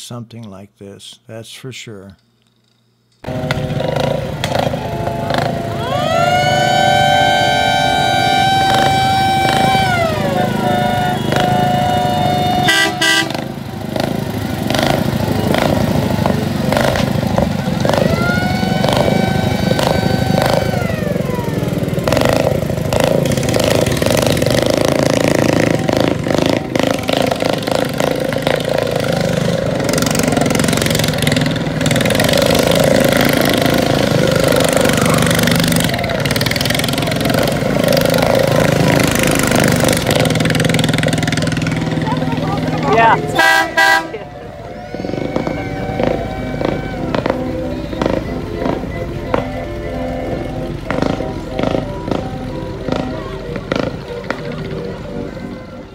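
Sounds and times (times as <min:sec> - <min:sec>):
small car engines driving past: 0:03.2 - 0:55.9
wailing tone: 0:04.4 - 0:30.8, 0:32.4 - 0:55.9.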